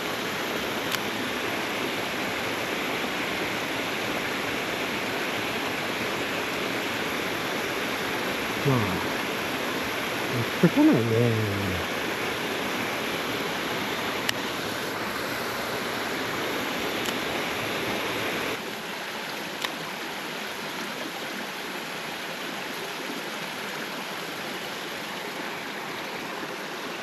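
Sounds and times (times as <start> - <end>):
stream water running over rocks: 0.0 - 27.0.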